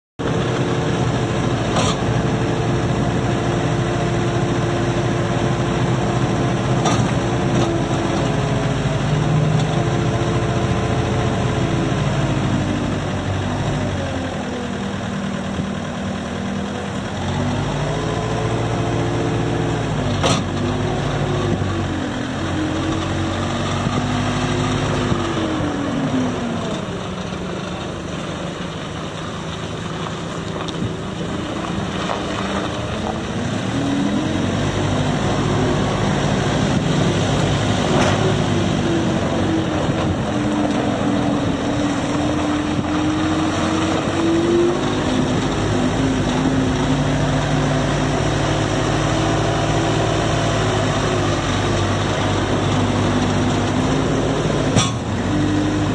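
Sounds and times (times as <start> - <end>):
diesel engine running under load: 0.2 - 55.9.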